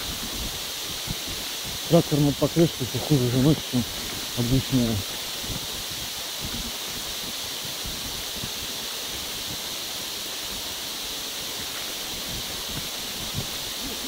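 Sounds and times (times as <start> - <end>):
wind hiss on microphone: 0.0 - 14.0.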